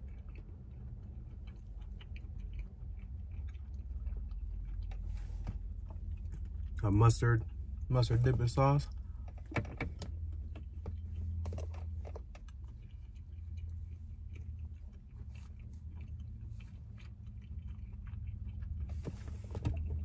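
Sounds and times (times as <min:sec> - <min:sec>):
person chewing: 0:00.0 - 0:08.2, 0:08.9 - 0:09.5, 0:10.1 - 0:20.0
steady low hum: 0:00.0 - 0:20.0.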